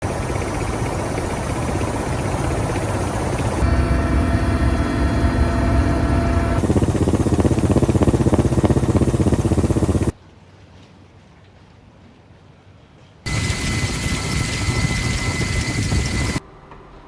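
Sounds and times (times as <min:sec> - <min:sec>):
loud machinery rumble and whine: 0:00.0 - 0:10.2, 0:13.3 - 0:17.0.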